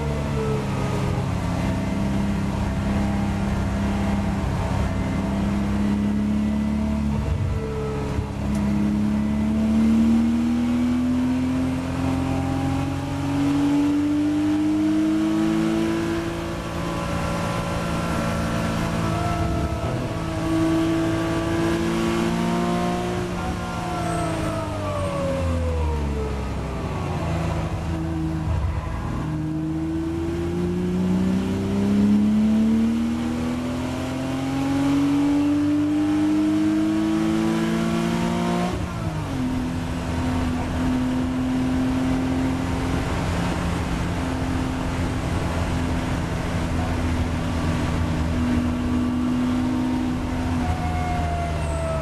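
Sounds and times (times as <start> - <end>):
race car engine accelerating: 0.0 - 52.0.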